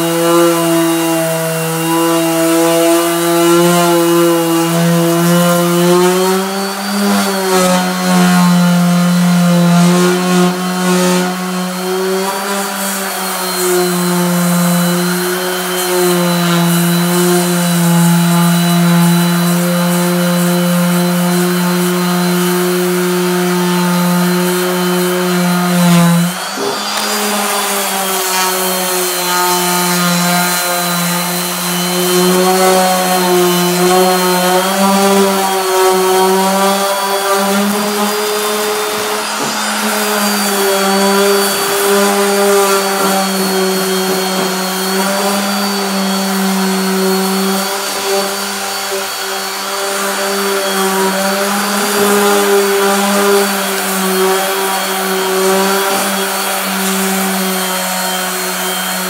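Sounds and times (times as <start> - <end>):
sander motor whine: 0.0 - 59.0.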